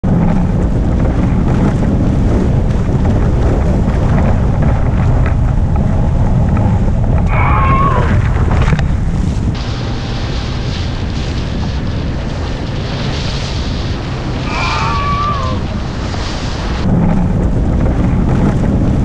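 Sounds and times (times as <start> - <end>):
water rushing past hulls: 0.0 - 19.0
wind buffeting microphone: 0.0 - 19.0.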